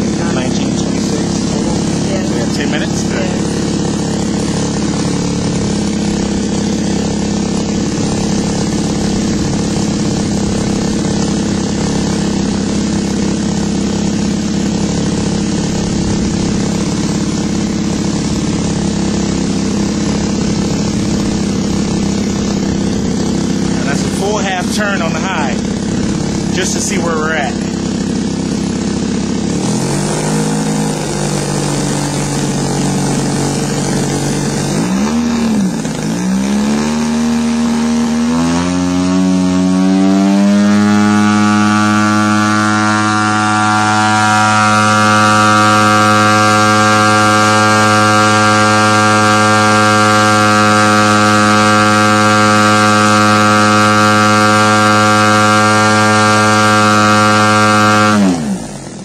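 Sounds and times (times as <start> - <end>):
model airplane engine running: 0.0 - 59.0.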